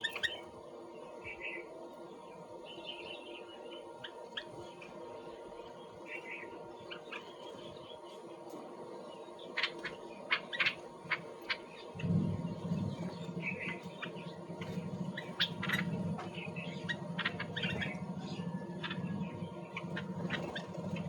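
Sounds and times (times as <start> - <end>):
birds chirping and squawking: 0.0 - 21.0
steady low hum: 0.0 - 21.0.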